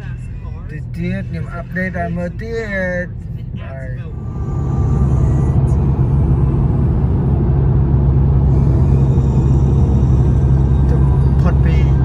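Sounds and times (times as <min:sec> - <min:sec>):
car road rumble inside cabin: 0:00.0 - 0:12.0.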